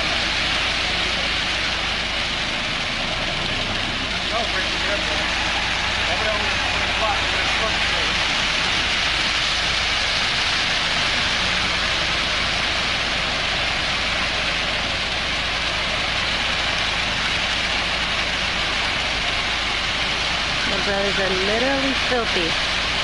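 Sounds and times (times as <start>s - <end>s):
constant high hiss: 0.0s - 23.0s
truck engine running: 0.0s - 23.0s.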